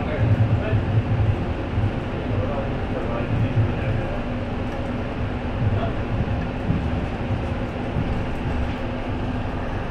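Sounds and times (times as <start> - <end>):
train rumbling on track: 0.0 - 9.9.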